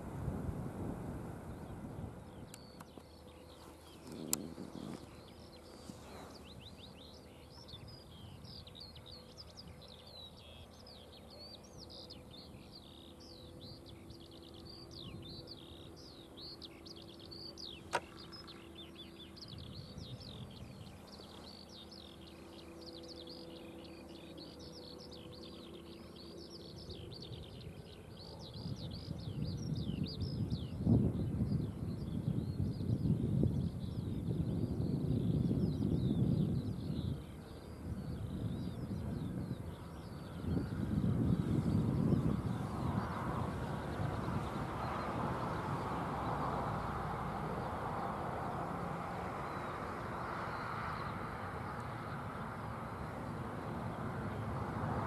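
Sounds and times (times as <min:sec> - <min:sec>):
faint steady hum: 0:00.0 - 0:55.0
birds chirping: 0:01.4 - 0:55.0.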